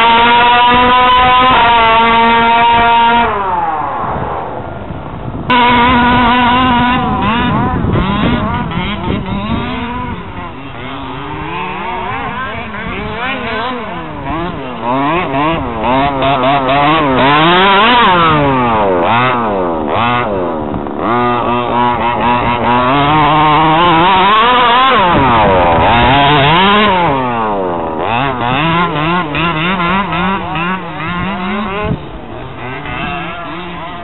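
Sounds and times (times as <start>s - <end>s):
small two-stroke engine revving: 0.0s - 34.0s.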